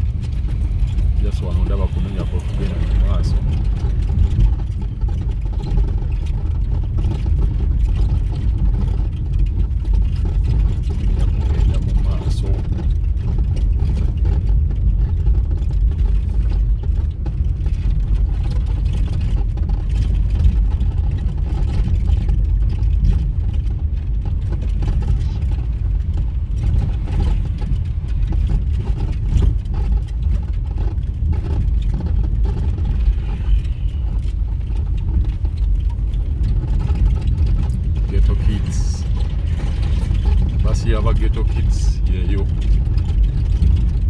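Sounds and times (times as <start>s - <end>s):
vehicle engine and road rumble: 0.0s - 44.0s.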